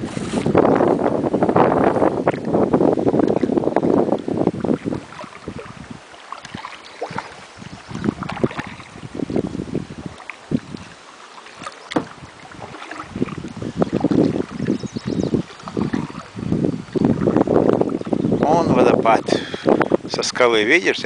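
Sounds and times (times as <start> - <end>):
water splashing around boat: 0.0 - 21.0
wind buffeting microphone: 0.0 - 21.0.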